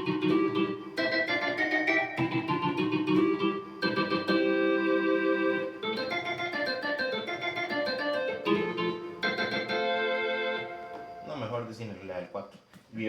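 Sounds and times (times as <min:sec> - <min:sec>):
combo organ playing chords and melody: 0:00.0 - 0:11.4.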